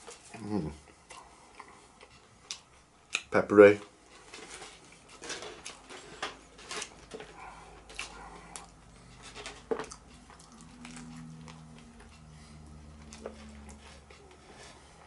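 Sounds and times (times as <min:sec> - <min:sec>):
person chewing food: 0:00.0 - 0:03.3, 0:04.1 - 0:15.0
low steady hum: 0:00.0 - 0:15.0.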